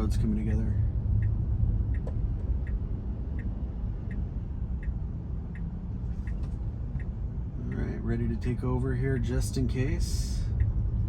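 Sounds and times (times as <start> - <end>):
cabin road rumble: 0.0 - 11.0
turn signal ticking: 0.0 - 11.0.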